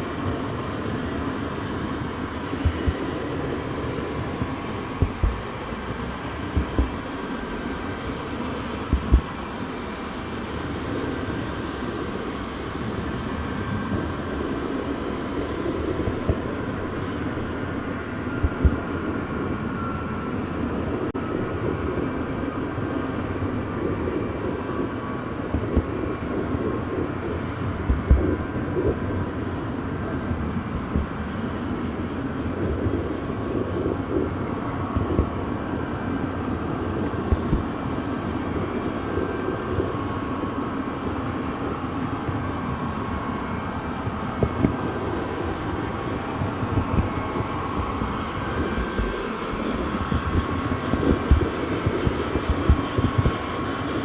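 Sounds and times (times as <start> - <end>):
moving train rumbling: 0.0 - 54.0.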